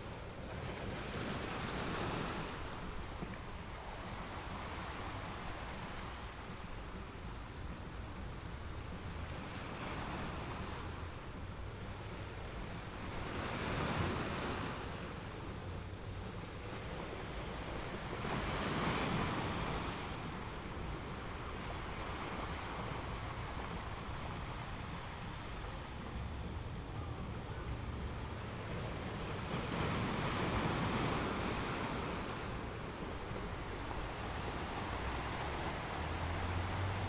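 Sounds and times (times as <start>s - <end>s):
ocean waves washing in: 0.0s - 37.0s.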